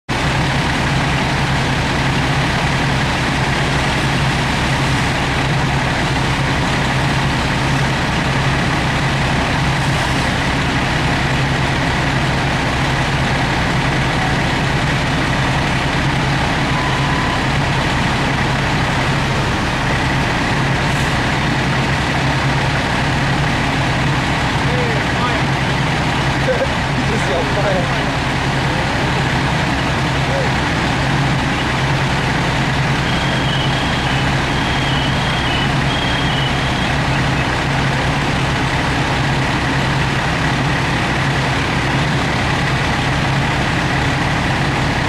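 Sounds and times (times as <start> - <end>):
diesel engine droning: 0.0 - 45.0.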